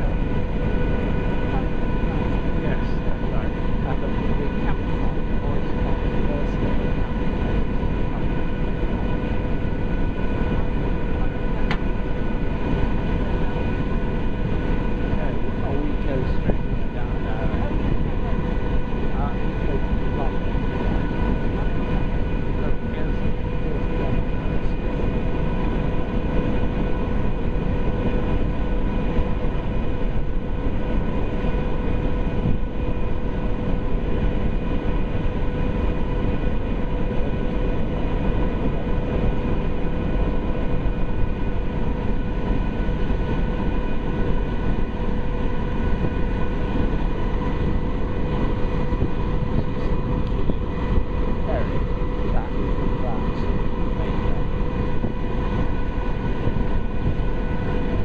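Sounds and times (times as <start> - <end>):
ferry engine drone: 0.0 - 58.0.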